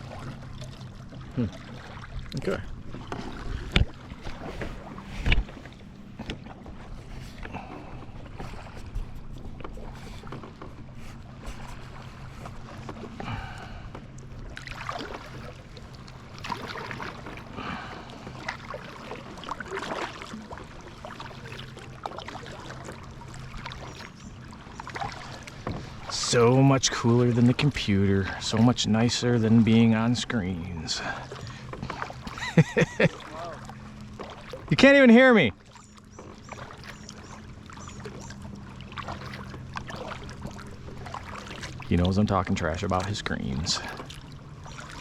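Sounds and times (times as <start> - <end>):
paddle splashing in water: 0.0 - 45.0.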